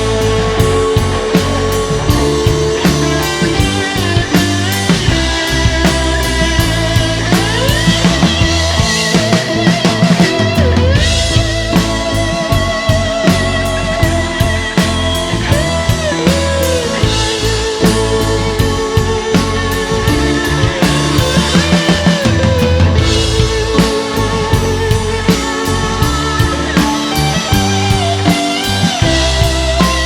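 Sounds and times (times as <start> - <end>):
bass guitar: 0.0 - 30.0
drum kit beat: 0.0 - 30.0
electric guitar lead: 0.0 - 30.0.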